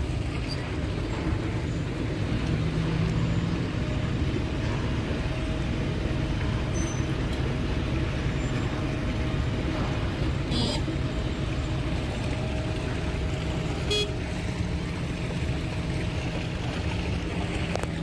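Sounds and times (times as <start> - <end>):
diesel machinery engine rumble: 0.0 - 18.0.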